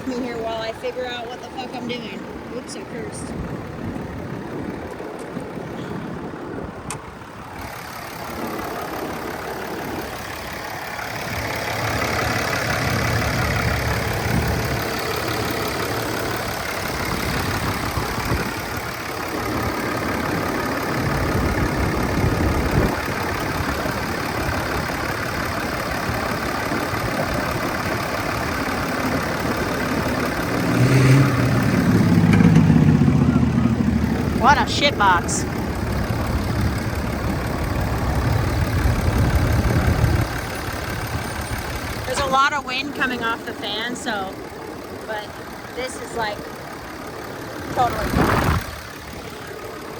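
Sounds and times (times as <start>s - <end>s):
cooling fan rushing air: 0.0s - 49.9s
diesel engine idling: 0.0s - 49.9s.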